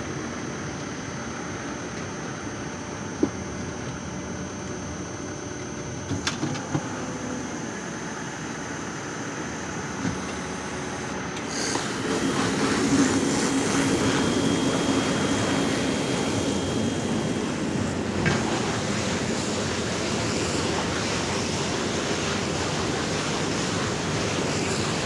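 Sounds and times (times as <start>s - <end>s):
baler mechanical drone: 0.0s - 25.0s.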